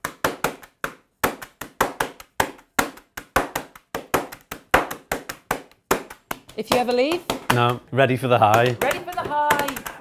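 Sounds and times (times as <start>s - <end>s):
drumming on bag of biscuits: 0.0s - 10.0s.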